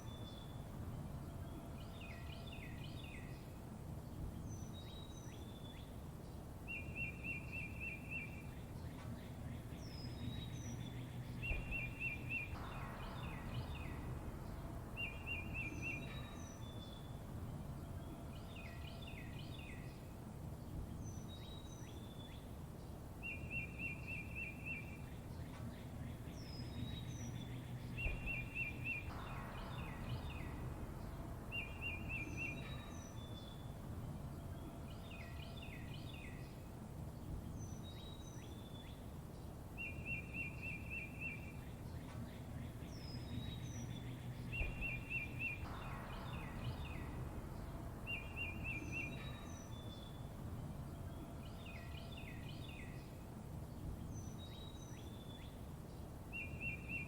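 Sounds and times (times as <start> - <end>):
low background rumble: 0.0 - 57.0
songbirds chirping: 0.0 - 57.0.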